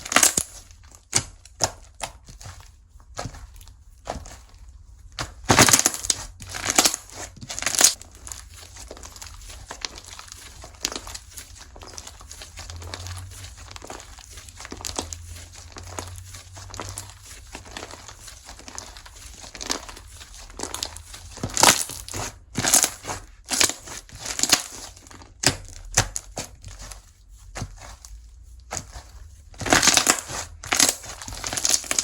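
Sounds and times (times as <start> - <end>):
slime crackling and popping: 0.0 - 2.5, 5.1 - 32.0.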